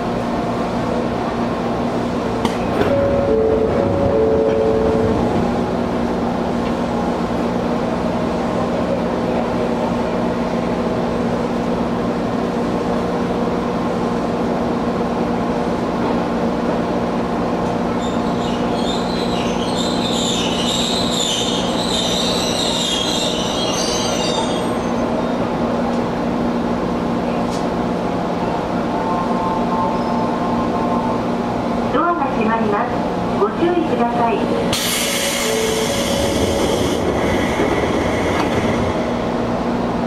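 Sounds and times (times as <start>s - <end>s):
train running sound: 0.0s - 40.0s.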